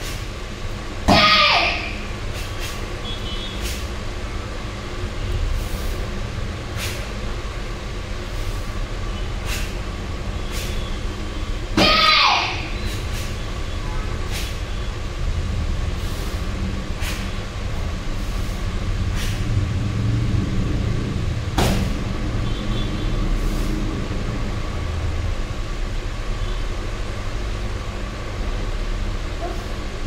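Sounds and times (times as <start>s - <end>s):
low background rumble: 0.0s - 30.0s.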